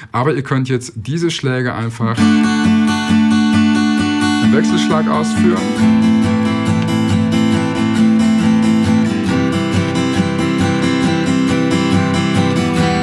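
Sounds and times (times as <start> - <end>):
acoustic guitar strumming: 2.2 - 13.0.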